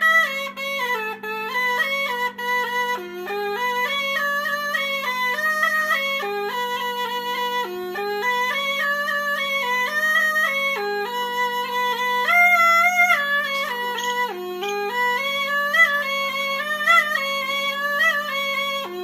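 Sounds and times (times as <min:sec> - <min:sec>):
reed instrument with drone: 0:00.0 - 0:19.0.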